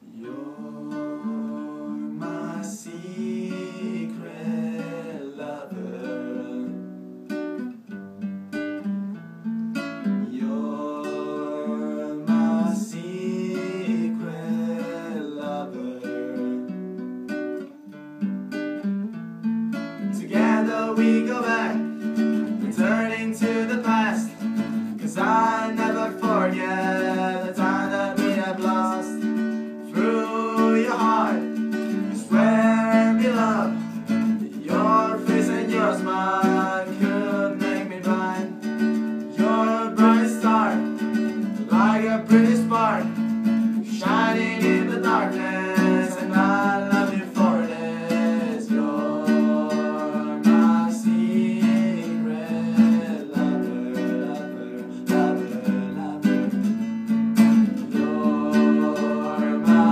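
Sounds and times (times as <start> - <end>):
young men singing pop song: 0.0 - 6.8, 10.2 - 16.7, 20.1 - 56.6, 57.6 - 59.9
classical guitar strummed: 0.0 - 59.9.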